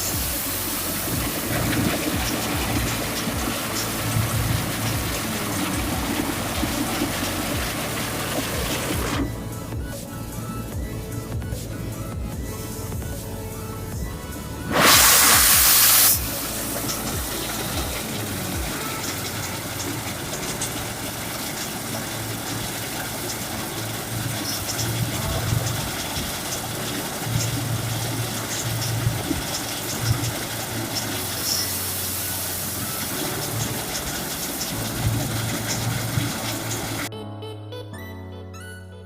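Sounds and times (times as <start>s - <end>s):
thresher machine whirring: 0.0s - 13.3s, 14.6s - 37.1s.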